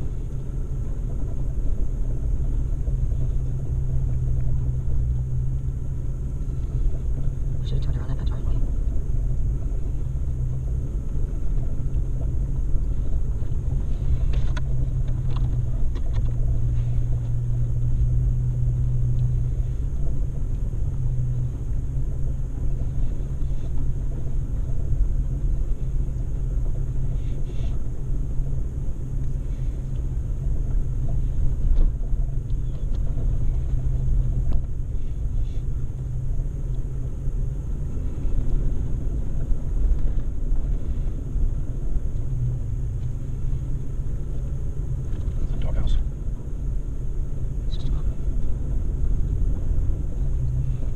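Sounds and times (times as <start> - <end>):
vehicle engine droning: 0.0 - 50.9.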